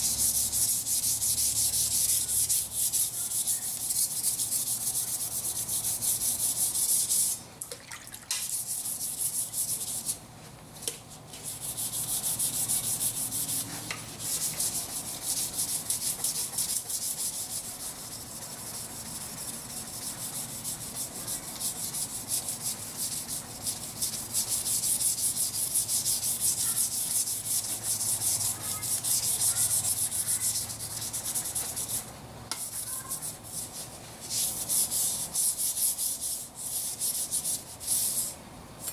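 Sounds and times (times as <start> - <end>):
sanding block scrubbing steel blade: 0.0 - 7.4, 8.4 - 10.2, 11.3 - 38.9.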